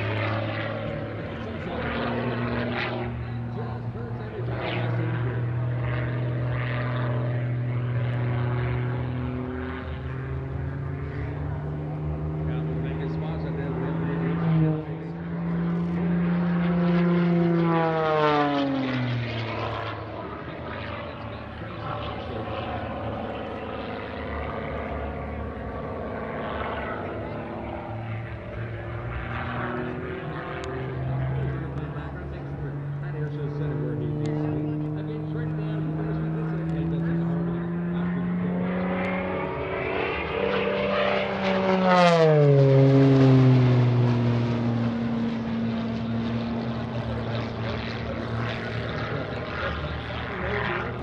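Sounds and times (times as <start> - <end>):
propeller plane engine droning: 0.0 - 51.0.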